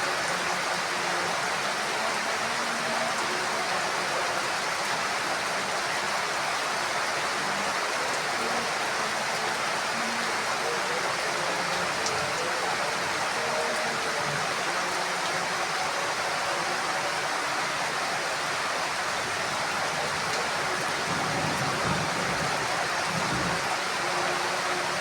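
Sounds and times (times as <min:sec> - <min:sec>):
heavy rain on a roof: 0:00.0 - 0:25.0.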